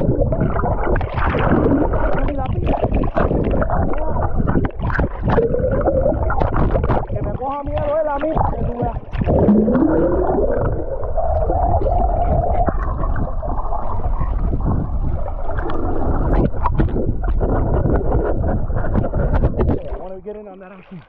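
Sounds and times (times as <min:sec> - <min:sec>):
low rumble: 0:00.0 - 0:20.3
churning water underwater: 0:00.0 - 0:21.0.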